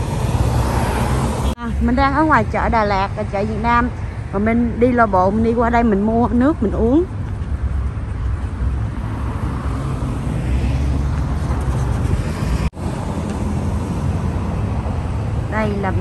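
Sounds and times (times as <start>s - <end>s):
rumble of passing cars: 0.0s - 16.0s.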